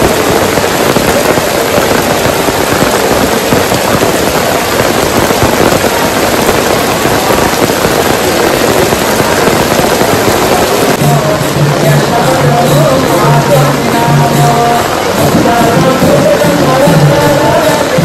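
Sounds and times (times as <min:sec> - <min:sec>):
heavy rain on stone and roof: 0:00.0 - 0:18.0.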